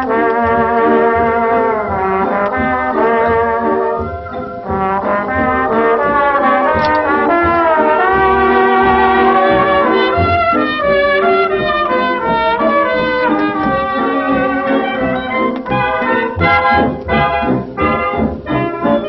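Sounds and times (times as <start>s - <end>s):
dance-band music with brass: 0.0s - 19.0s.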